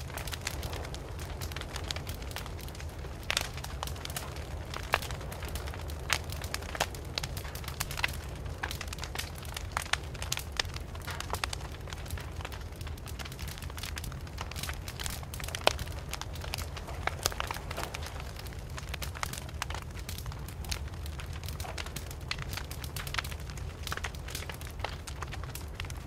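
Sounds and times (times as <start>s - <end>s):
low fire rumble: 0.0s - 26.0s
wood fire crackling and popping: 0.0s - 26.0s.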